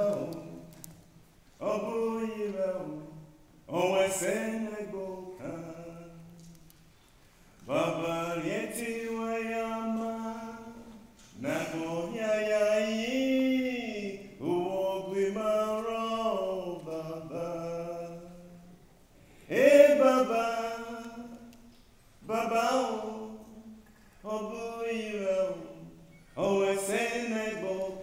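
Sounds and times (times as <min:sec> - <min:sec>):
man singing unaccompanied: 0:00.0 - 0:00.9, 0:01.6 - 0:06.7, 0:07.6 - 0:18.8, 0:19.5 - 0:28.0.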